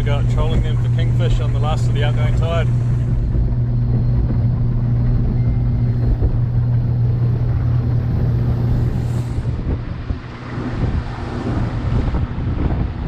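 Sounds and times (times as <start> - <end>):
outboard motor hum: 0.0 - 13.0
water rushing in wake: 0.0 - 13.0
wind: 0.0 - 13.0.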